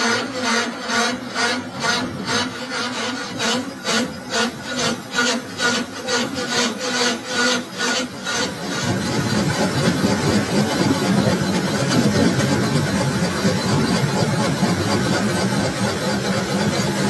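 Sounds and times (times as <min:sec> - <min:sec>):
lathe tool scraping metal: 0:00.0 - 0:17.0
steady machine hum: 0:00.0 - 0:17.0.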